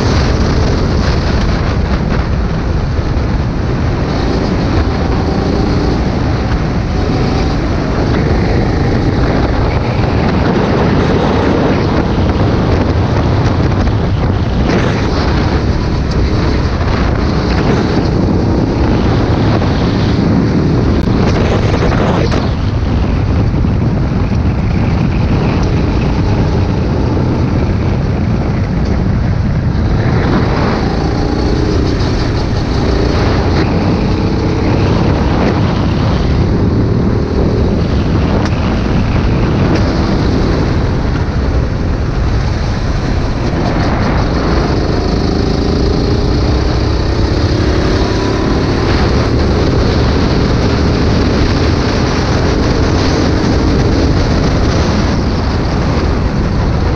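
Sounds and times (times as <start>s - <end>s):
go-kart engine racing: 0.0s - 56.9s
wind buffeting microphone: 0.0s - 56.9s.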